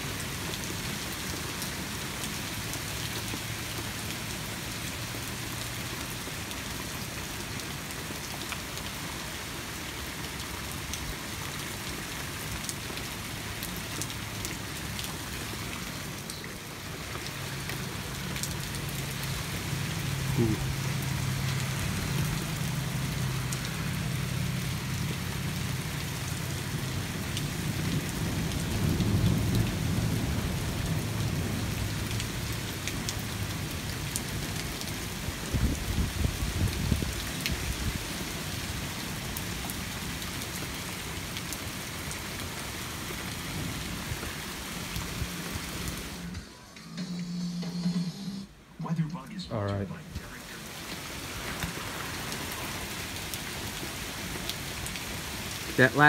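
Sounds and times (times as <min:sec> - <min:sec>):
hard rain: 0:00.0 - 0:56.0.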